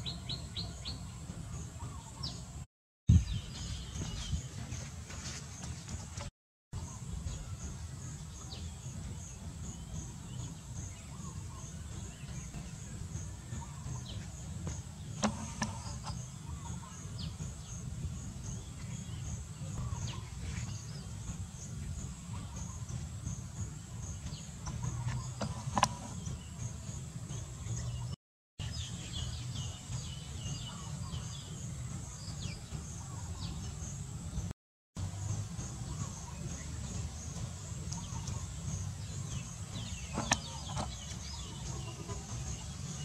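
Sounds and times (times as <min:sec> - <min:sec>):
low steady rumble: 0:00.0 - 0:43.0
bird chirps: 0:06.8 - 0:34.2, 0:35.1 - 0:43.0.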